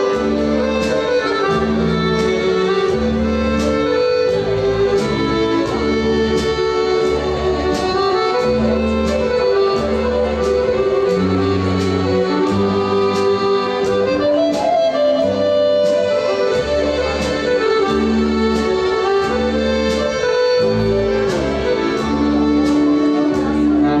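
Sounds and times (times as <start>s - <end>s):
accordion: 0.0s - 24.0s
drum kit beat: 0.0s - 24.0s
violin: 0.0s - 24.0s.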